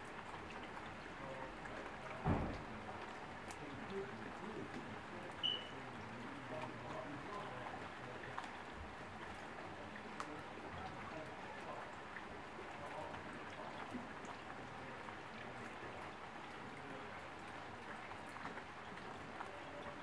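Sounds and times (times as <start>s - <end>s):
rain drops splashing on pavement: 0.0s - 20.0s
water running from drainpipe: 0.0s - 20.0s.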